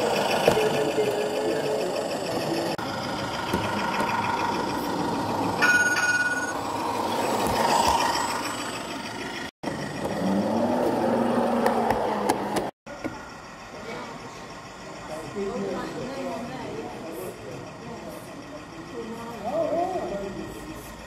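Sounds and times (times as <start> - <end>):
model tram whine: 0.0 - 21.0.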